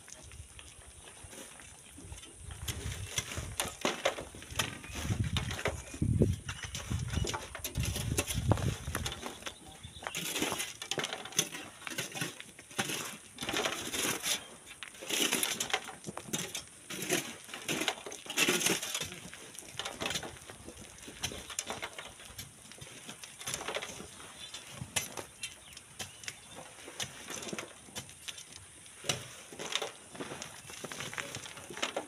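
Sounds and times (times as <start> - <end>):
stones and gravel crunching: 0.0 - 32.0.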